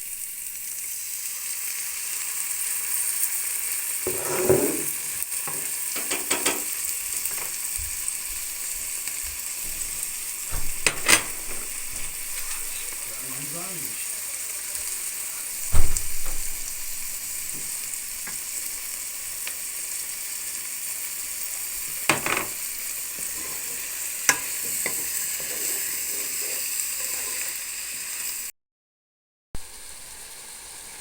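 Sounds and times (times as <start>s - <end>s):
food sizzling in a pan: 0.0s - 28.5s, 29.6s - 31.0s.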